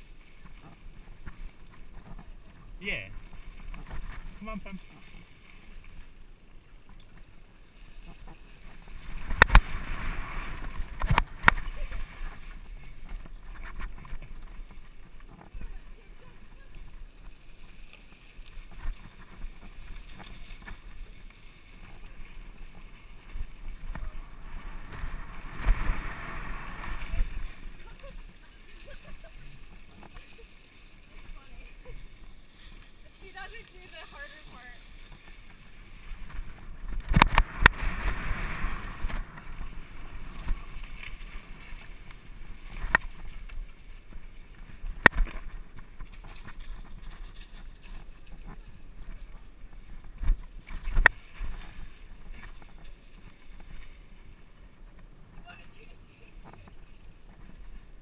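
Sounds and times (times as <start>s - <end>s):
bike tyres on dirt trail: 0.0s - 58.0s
wind rumble on microphone: 0.0s - 58.0s.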